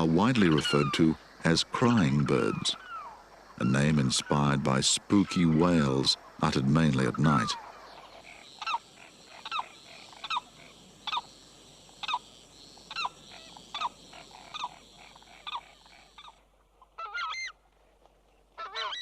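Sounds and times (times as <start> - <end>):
bird wailing cries: 0.0 - 4.6, 5.2 - 11.4, 12.0 - 17.6, 18.6 - 19.0.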